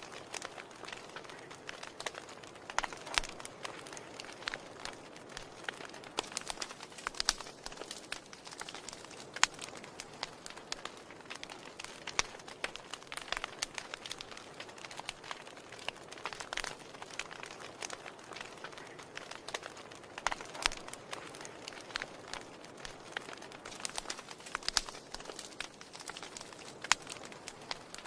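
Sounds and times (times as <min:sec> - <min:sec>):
fireplace wood fire crackling: 0:00.0 - 0:28.0.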